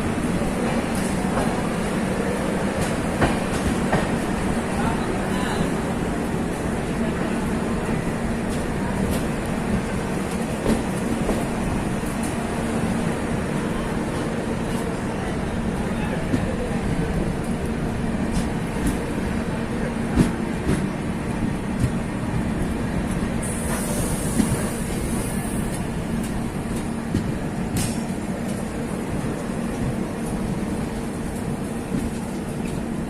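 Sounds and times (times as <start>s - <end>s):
train coach rumbling on rails: 0.0s - 33.0s.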